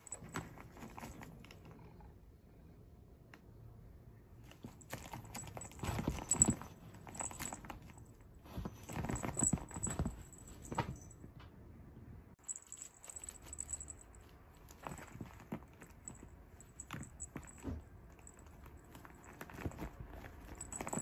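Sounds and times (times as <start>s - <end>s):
toy rustling: 0.0s - 1.9s, 4.4s - 11.1s, 12.4s - 21.0s.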